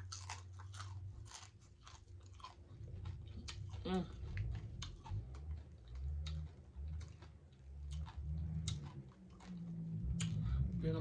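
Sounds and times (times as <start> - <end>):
chewing with mouth smacks: 0.0 - 10.7.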